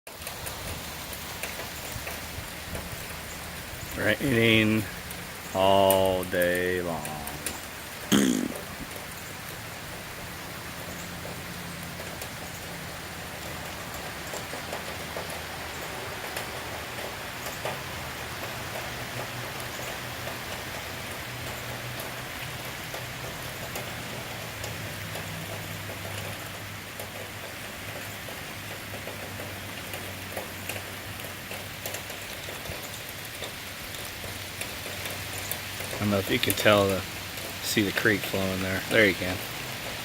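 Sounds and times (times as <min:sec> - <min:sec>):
steady rain falling: 0:00.1 - 0:40.0.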